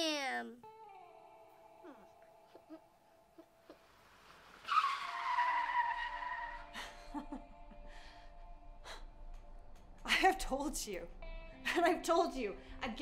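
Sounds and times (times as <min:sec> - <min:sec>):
soft sustained music tones: 0:00.6 - 0:13.0.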